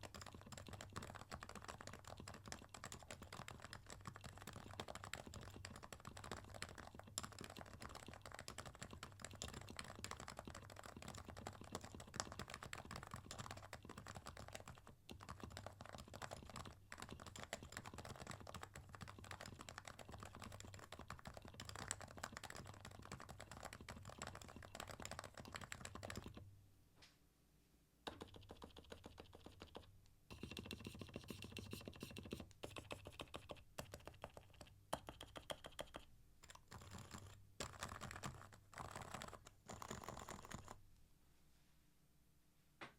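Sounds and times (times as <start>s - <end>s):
fast keyboard typing: 0.0s - 26.4s, 28.1s - 40.8s.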